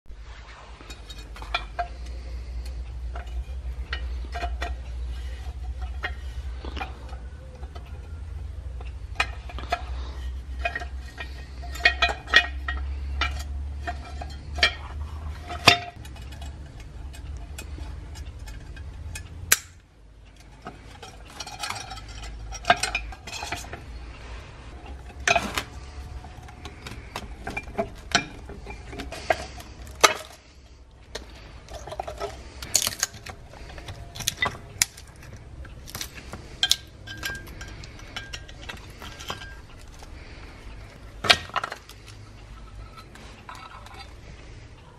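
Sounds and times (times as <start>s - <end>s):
metal clinks scrapes and knocks: 0.5s - 44.9s.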